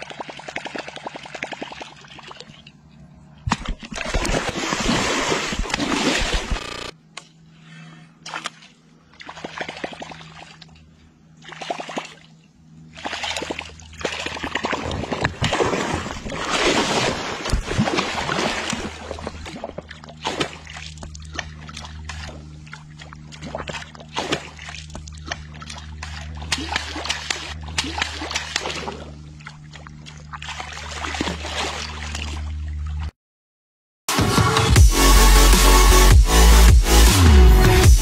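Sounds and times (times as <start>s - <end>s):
water splashing: 0.0s - 2.8s, 3.5s - 7.0s, 8.2s - 10.8s, 11.4s - 33.1s
low steady hum: 0.0s - 33.1s.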